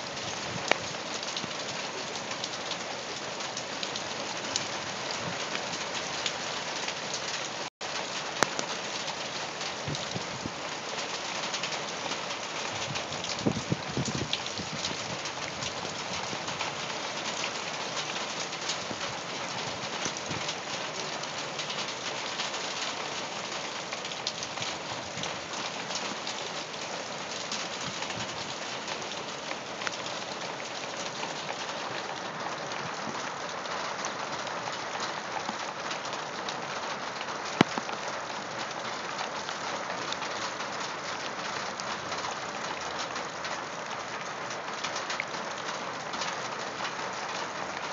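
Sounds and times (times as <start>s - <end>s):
heavy rain on gravel: 0.0s - 47.9s.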